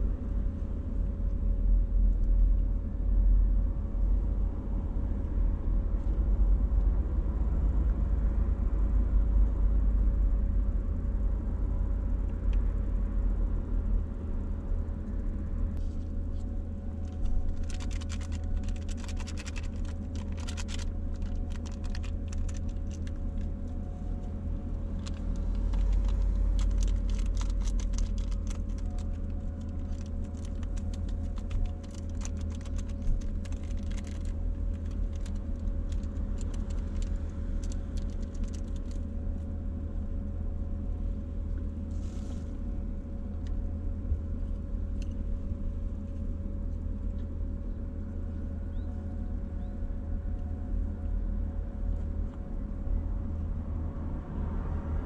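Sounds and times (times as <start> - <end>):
low rumble: 0.0 - 55.0
steady hum: 0.0 - 55.0.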